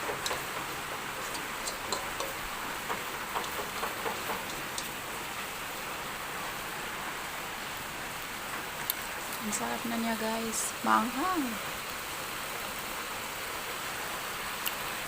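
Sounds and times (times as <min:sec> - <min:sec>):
sauce sizzling in a pan: 0:00.0 - 0:15.0.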